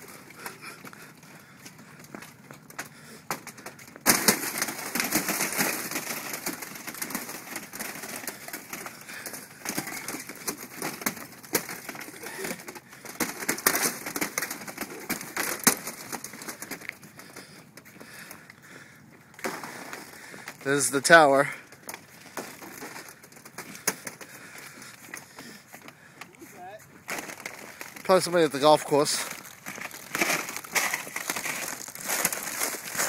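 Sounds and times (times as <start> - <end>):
footsteps cracking thin ice: 2.1 - 33.0.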